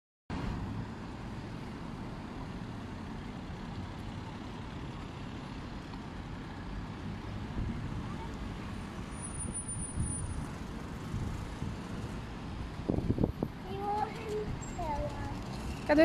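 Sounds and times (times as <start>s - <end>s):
road traffic rumble: 0.3s - 16.0s.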